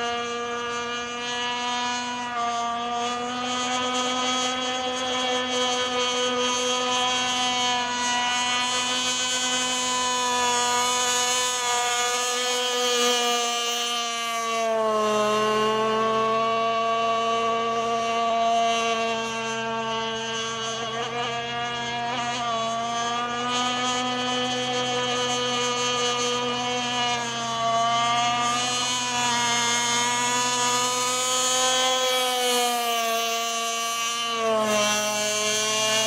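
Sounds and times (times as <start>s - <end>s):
model boat motor running: 0.0s - 36.0s.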